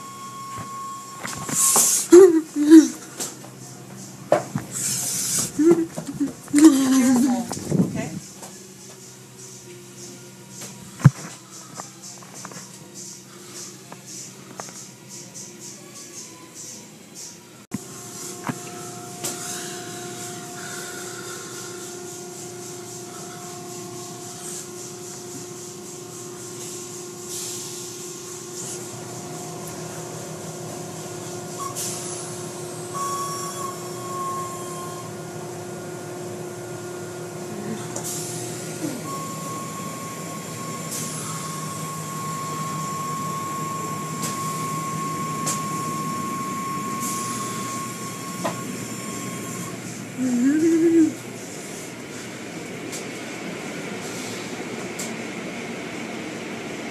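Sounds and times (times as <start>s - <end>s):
car wash motor whine: 0.0s - 15.1s, 16.9s - 56.9s.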